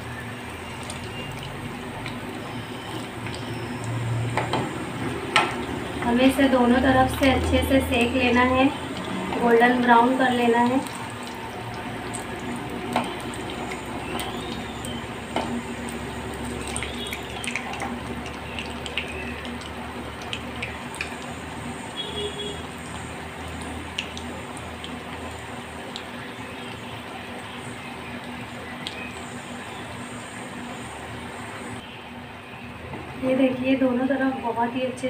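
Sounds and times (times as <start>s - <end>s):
food frying in hot oil: 0.0s - 35.0s.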